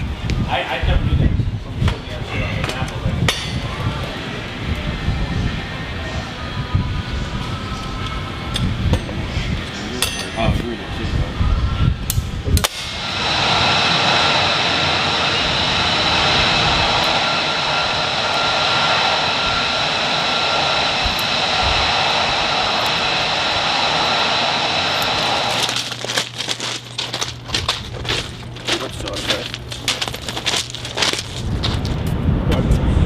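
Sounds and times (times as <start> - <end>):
loud mechanical whine: 0.0 - 33.0.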